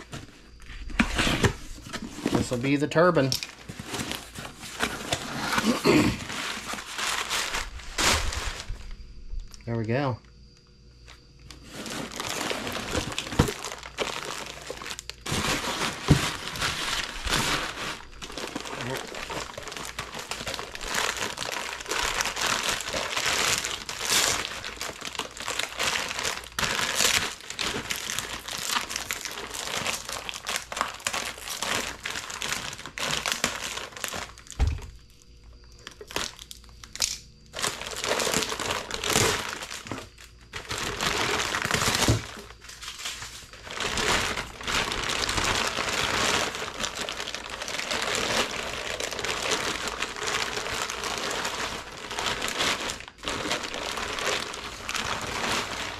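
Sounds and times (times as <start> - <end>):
plastic bag crinkling: 0.0 - 9.0, 11.0 - 55.9.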